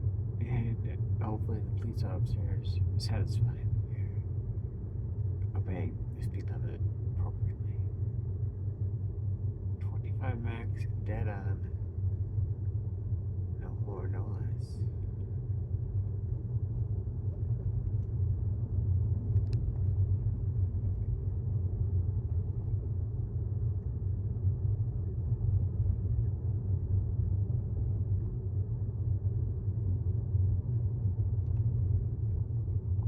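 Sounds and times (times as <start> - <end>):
road and tyre rumble in car cabin: 0.2 - 8.6, 9.4 - 33.0.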